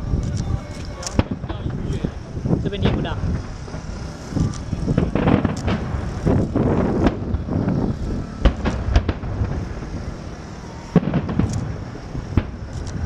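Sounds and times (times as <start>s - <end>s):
firework shells bursting: 0.0s - 13.0s
steady rumble: 0.0s - 13.0s.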